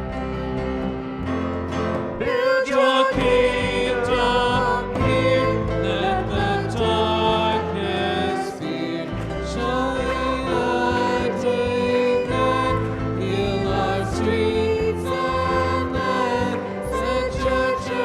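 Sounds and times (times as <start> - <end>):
instrumental accompaniment with bass: 0.0 - 2.2, 3.1 - 18.0
choir singing sustained notes: 2.2 - 18.0.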